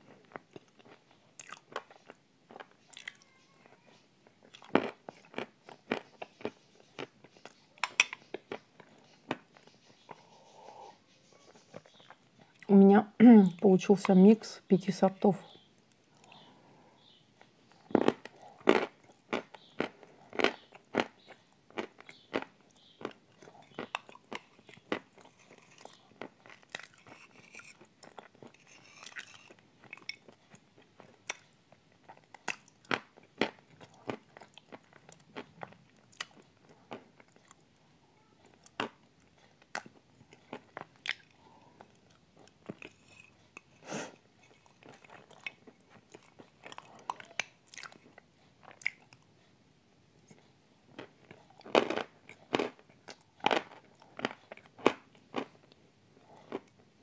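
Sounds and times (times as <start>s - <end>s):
chewing and crunching: 0.0s - 12.8s, 15.8s - 49.5s, 50.2s - 57.0s.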